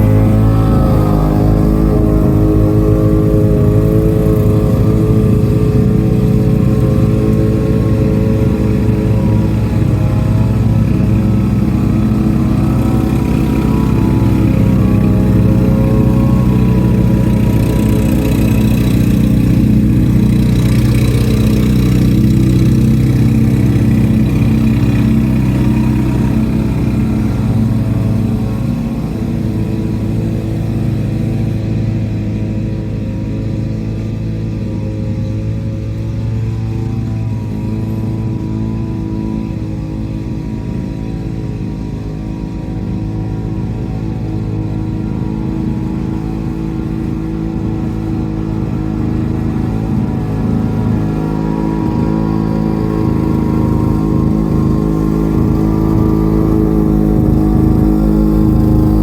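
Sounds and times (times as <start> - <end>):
push mower engine running: 0.0 - 59.0.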